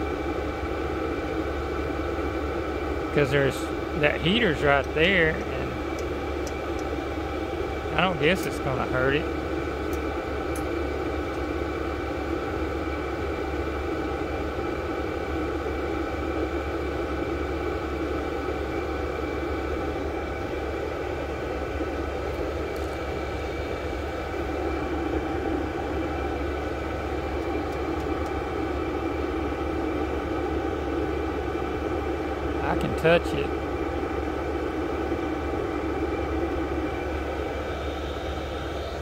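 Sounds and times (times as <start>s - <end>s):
heater fan whirring: 0.0s - 39.0s.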